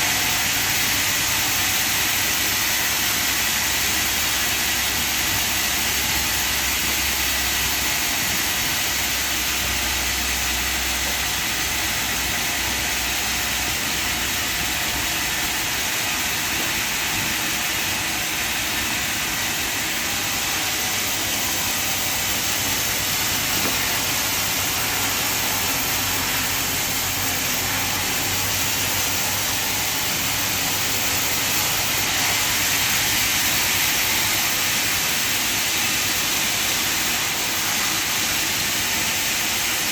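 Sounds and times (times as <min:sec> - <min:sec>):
low machine hum: 0:00.0 - 0:38.2.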